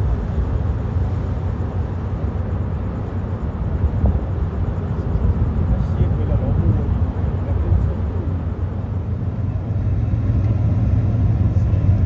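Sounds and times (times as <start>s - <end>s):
ship engines rumbling: 0.0s - 12.0s.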